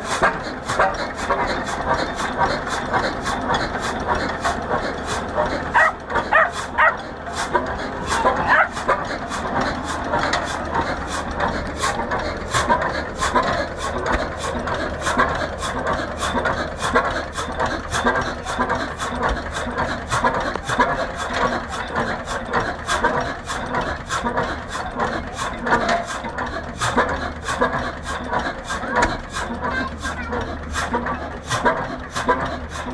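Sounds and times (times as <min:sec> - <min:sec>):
marine engine exhaust beats: 0:00.0 - 0:32.9.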